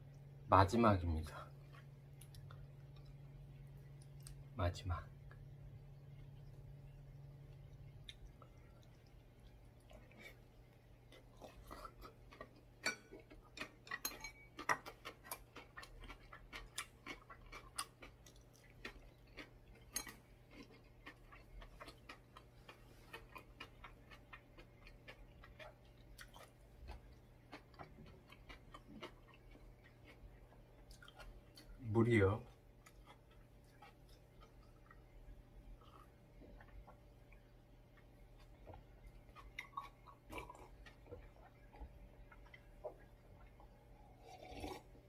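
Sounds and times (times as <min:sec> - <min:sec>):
faint steady hum: 0:00.0 - 0:45.0
mouth chewing and smacking: 0:06.1 - 0:31.8, 0:32.5 - 0:44.9.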